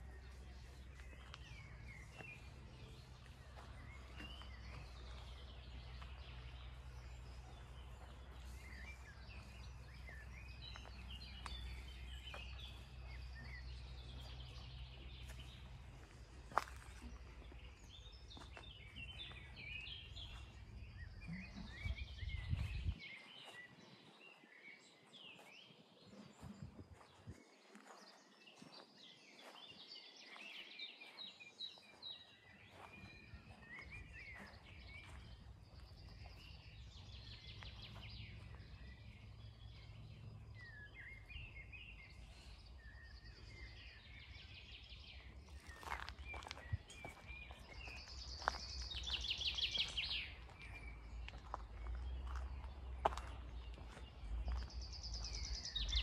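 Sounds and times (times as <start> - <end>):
faint low rumble: 0.0 - 23.0, 32.8 - 56.0
small birds chirping and trilling: 0.0 - 56.0.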